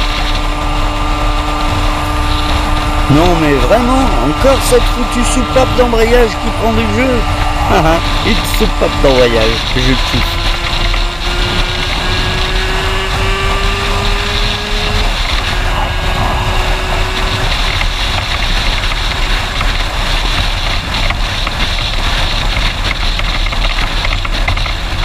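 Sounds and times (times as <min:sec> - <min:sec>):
heavy wind noise: 0:00.0 - 0:25.0
helmet visor buzzing rattle: 0:00.0 - 0:25.0
two-stroke motorcycle engine: 0:00.0 - 0:25.0.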